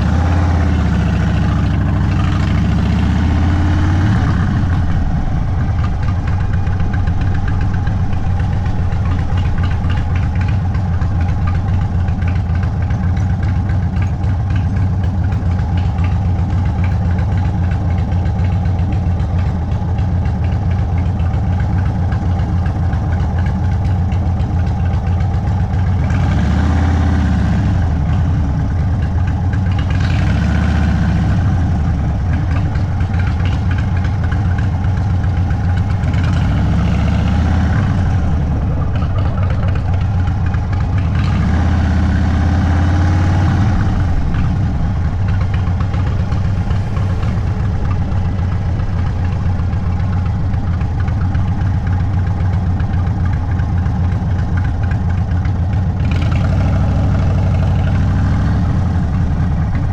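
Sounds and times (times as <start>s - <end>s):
motorcycle engine revving near idle: 0.0s - 59.9s.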